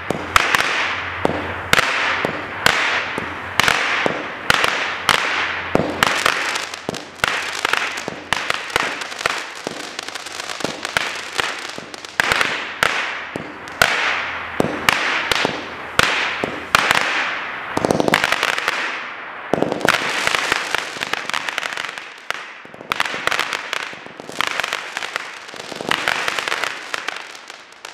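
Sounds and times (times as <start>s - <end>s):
firework shots with hiss: 0.0s - 27.9s.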